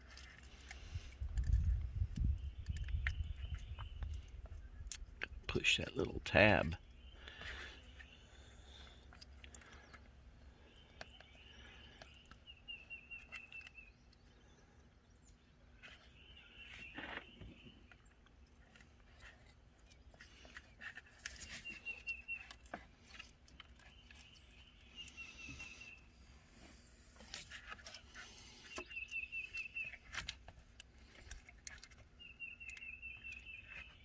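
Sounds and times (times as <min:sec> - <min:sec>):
birds chirping in trills: 0:00.1 - 0:34.0.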